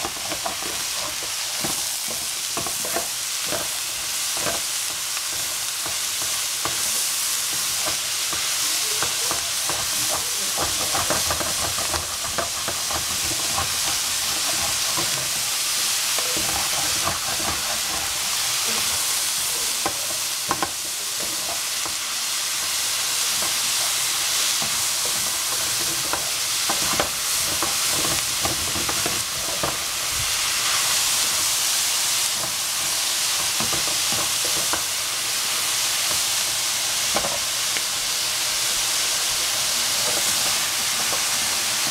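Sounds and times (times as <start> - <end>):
spatula scraping and knocking pan: 0.0 - 31.6, 32.2 - 38.0, 39.0 - 41.9
food sizzling in a frying pan: 0.0 - 41.9.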